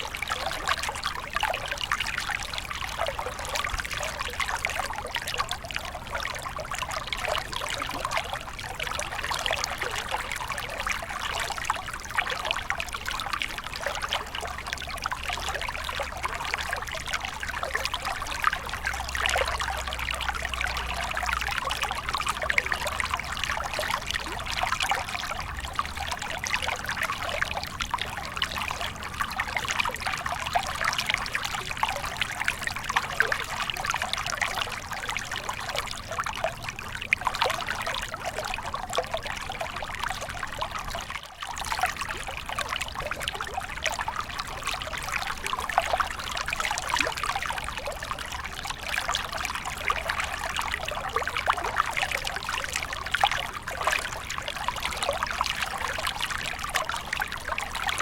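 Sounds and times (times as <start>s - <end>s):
water stream flowing: 0.0s - 58.0s.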